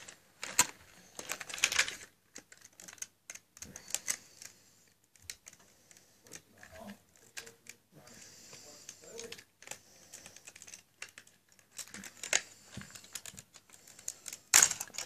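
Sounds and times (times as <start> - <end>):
plastic bricks clicking and rattling: 0.0 - 7.8, 9.1 - 15.0.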